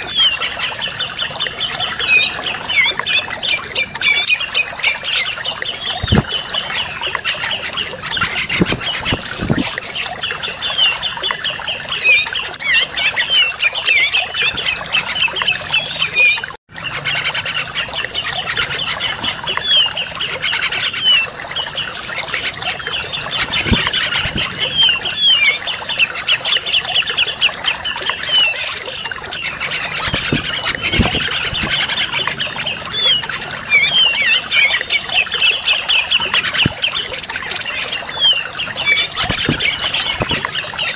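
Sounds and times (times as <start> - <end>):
chattering bird calls: 0.0 - 40.9.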